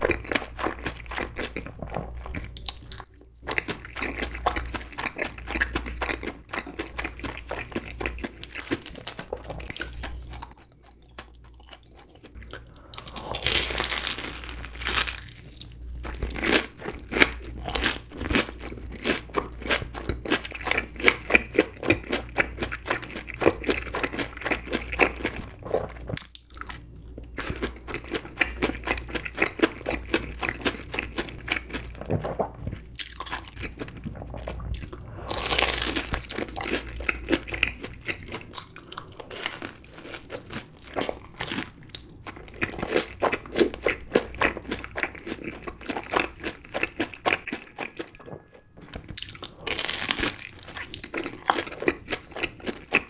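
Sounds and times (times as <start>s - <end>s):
crunching and chewing of food: 0.0s - 53.0s.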